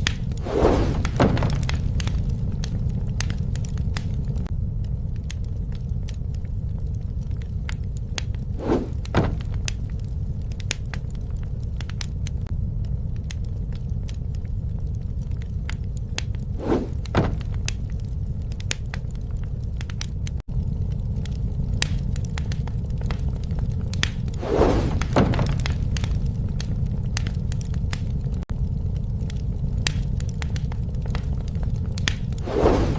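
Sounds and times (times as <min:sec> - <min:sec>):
bonfire crackling and popping: 0:00.0 - 0:32.9
low rumble of flames: 0:00.0 - 0:32.9.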